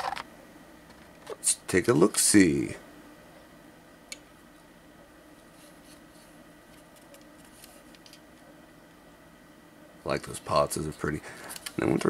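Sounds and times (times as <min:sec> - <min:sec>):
steady low hiss: 0:00.0 - 0:12.0
thin steady whine: 0:00.0 - 0:12.0.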